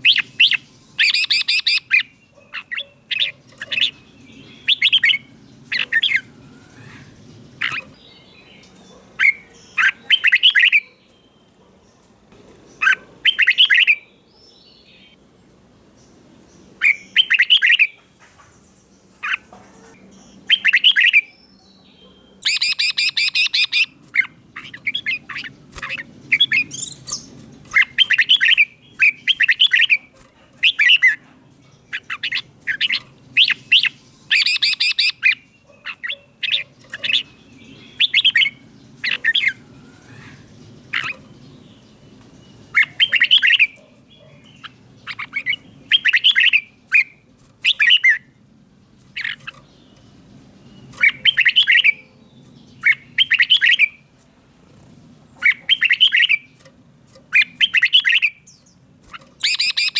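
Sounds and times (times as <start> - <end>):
bird singing warbling phrases: 0.0 - 15.3, 15.9 - 54.2, 55.0 - 59.9.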